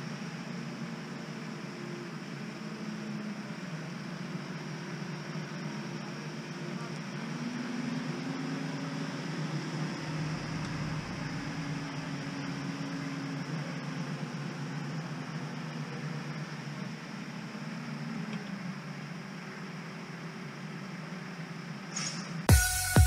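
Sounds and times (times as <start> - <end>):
distant tractor engines droning: 0.0 - 22.5.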